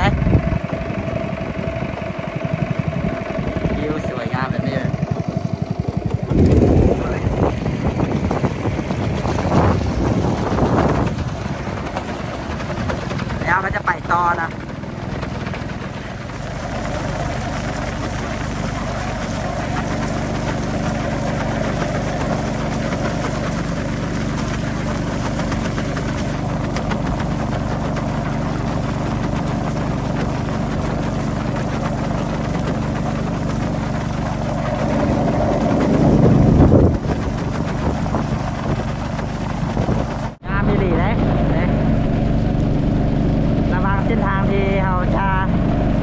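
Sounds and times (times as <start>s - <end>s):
motorboat engine running: 0.0s - 46.0s
rushing water and air: 0.0s - 46.0s.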